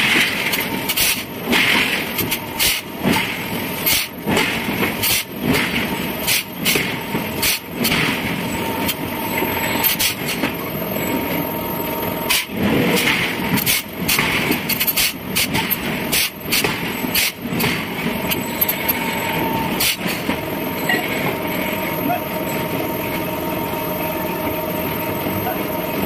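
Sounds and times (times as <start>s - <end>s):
heavy machinery running: 0.0s - 26.0s.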